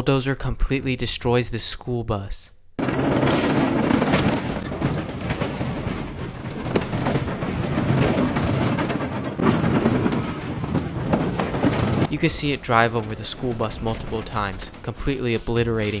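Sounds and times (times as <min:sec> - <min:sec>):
bulldozer engine and track rumble: 0:02.8 - 0:16.0
bus body crunching and cracking: 0:02.8 - 0:16.0.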